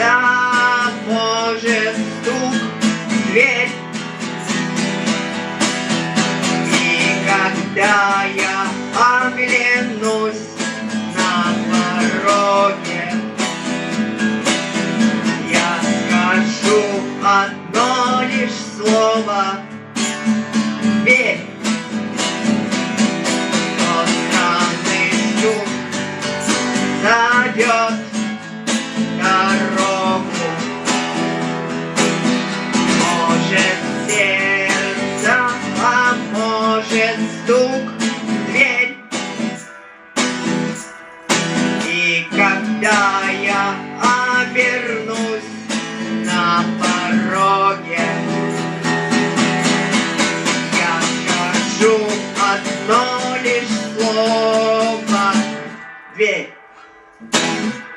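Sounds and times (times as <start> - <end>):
person singing: 0.0 - 4.8, 5.9 - 13.8, 14.4 - 19.8, 20.9 - 21.6, 23.2 - 57.9
acoustic guitar strumming: 0.0 - 57.9.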